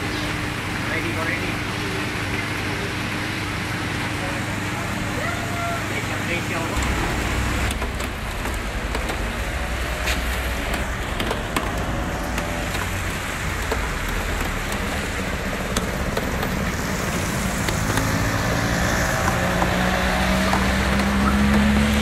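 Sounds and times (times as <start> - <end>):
rain falling on wet street: 0.0 - 22.0
traffic rumble on wet road: 0.0 - 22.0.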